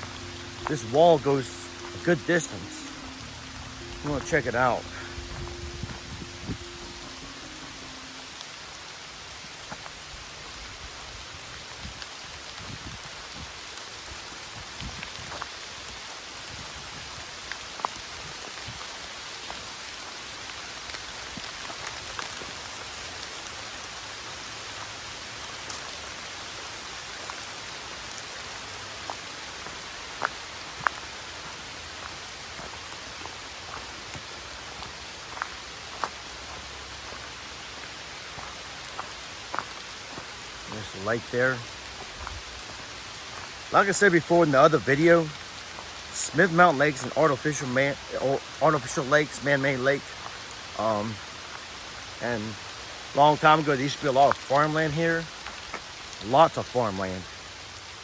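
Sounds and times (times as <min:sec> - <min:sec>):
rain falling through trees: 0:00.0 - 0:58.0.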